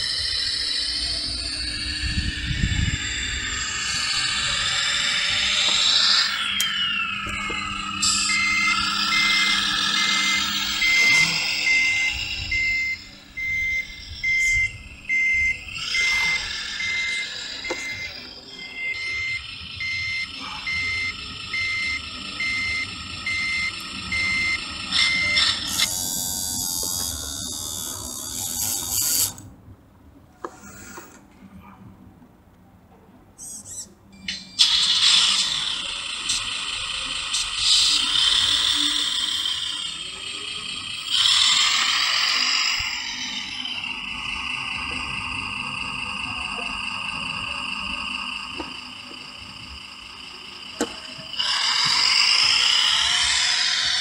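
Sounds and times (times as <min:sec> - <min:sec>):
reversing beeper: 0:00.0 - 0:28.9, 0:34.2 - 0:54.0.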